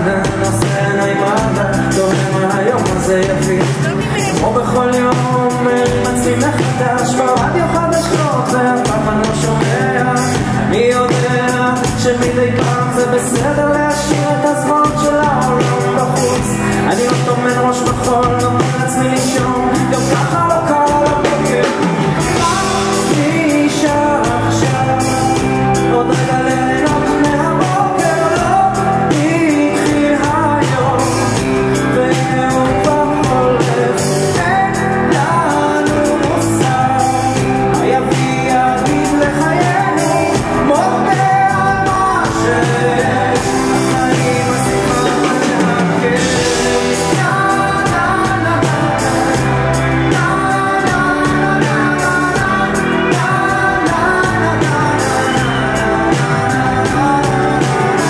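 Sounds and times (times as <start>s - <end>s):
live rock band: 0.0s - 58.0s
man singing: 0.0s - 58.0s.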